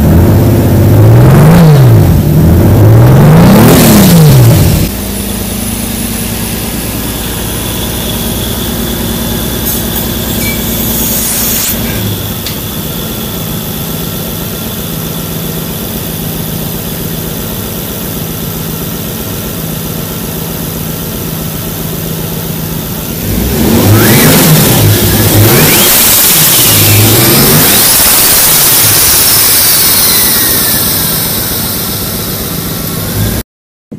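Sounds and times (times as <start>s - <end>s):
car engine idling: 0.0s - 33.4s
steady hum: 4.3s - 23.4s, 24.4s - 33.4s.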